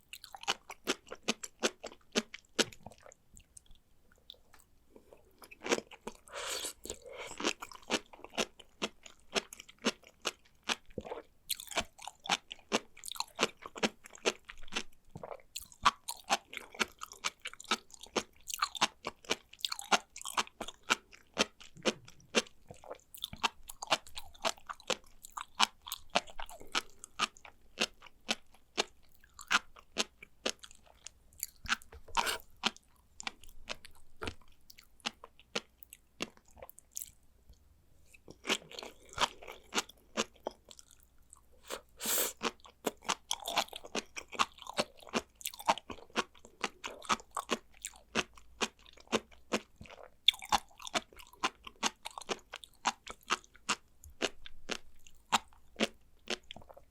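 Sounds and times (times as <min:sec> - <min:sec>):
crunchy chewing and popping: 0:00.0 - 0:56.9.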